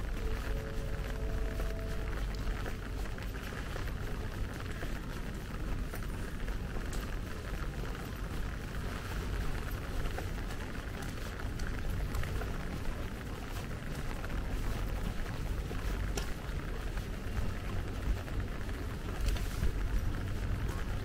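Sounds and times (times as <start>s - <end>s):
constant low rumble: 0.0s - 21.0s
rain on wet paving: 0.0s - 21.0s.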